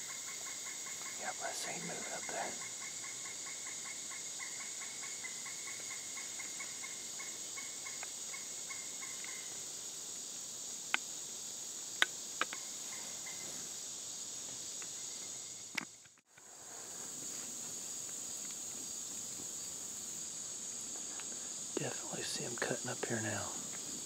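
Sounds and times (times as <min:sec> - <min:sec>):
insect drone: 0:00.0 - 0:24.0.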